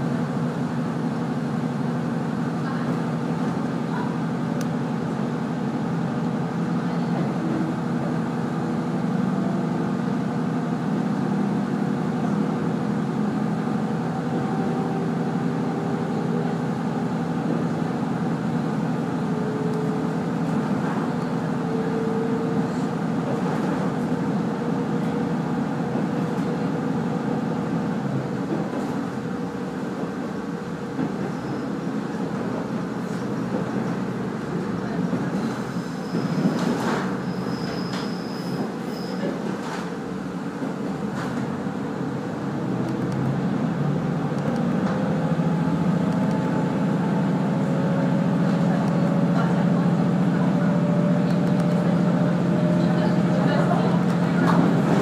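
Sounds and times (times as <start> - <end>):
railcar engine drone: 0.0 - 55.0
wheel and rail rumble: 0.0 - 55.0.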